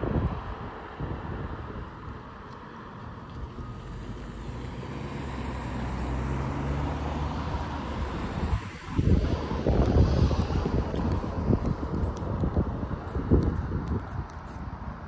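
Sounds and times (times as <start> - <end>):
wind on microphone: 0.0 - 2.6, 3.2 - 15.0.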